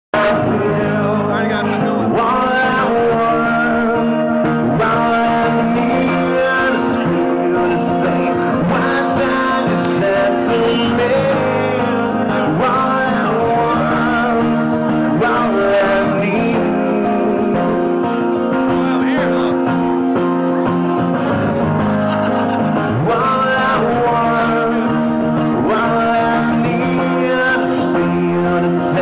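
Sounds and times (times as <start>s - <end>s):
man singing: 0.1s - 29.0s
strummed acoustic guitar: 0.2s - 29.0s.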